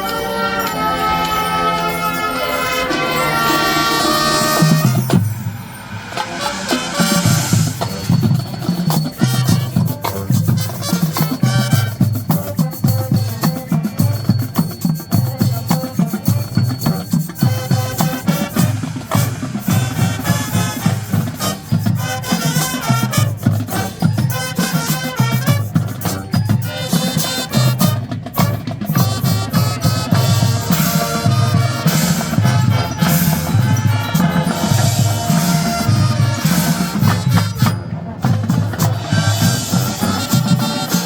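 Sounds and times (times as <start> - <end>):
marching band playing: 0.0 - 41.0
drum beat: 2.9 - 41.0.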